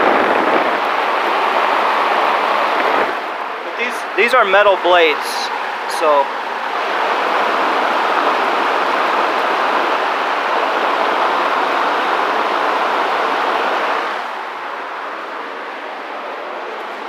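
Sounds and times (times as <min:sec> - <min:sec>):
fan rush of air: 0:00.0 - 0:17.0.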